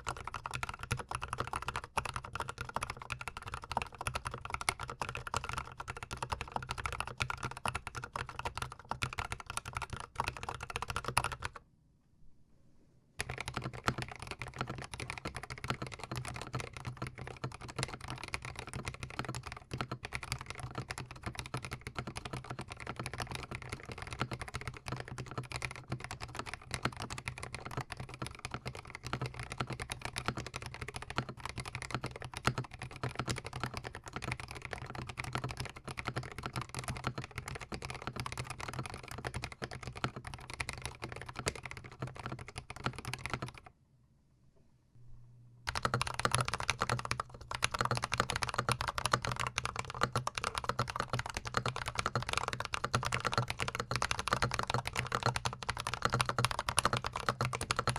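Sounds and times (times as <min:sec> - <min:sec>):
fast mechanical keyboard typing: 0:00.0 - 0:11.6, 0:13.2 - 0:43.7, 0:45.7 - 0:57.9.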